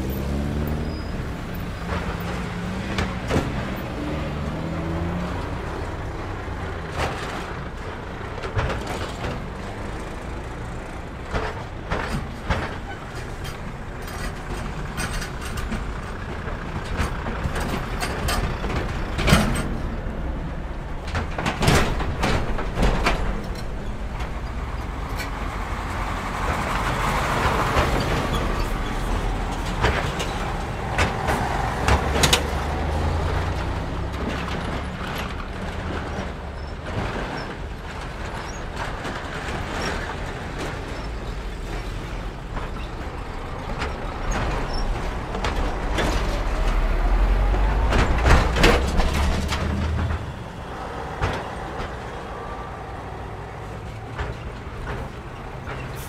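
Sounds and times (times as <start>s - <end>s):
truck engines running: 0.0s - 56.0s
tyres on road: 0.0s - 56.0s
wheels knocking over crossing: 0.1s - 56.0s.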